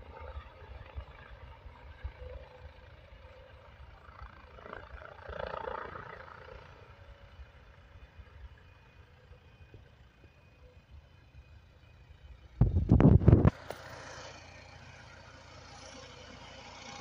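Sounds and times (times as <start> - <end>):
distant helicopter flying: 0.0 - 17.0.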